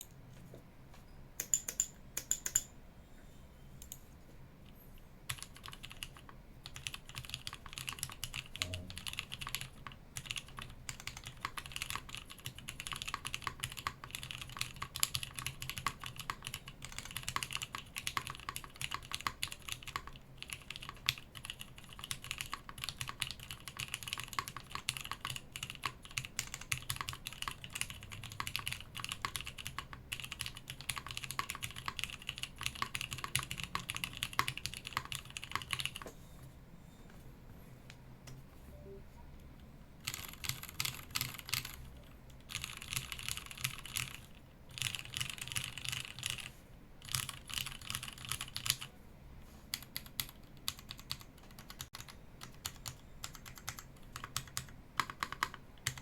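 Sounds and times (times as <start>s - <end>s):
mechanical keyboard typing: 1.4s - 2.7s, 5.3s - 36.0s, 40.0s - 48.9s, 49.7s - 56.0s.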